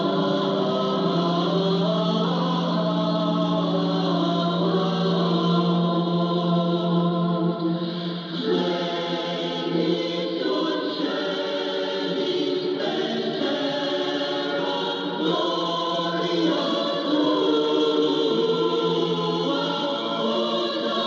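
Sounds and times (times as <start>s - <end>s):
choir singing over radio: 0.0s - 21.0s.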